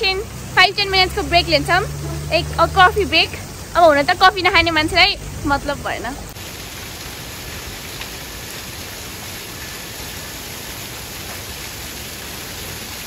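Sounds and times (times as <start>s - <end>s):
water rushing down waterfall: 0.0s - 13.0s.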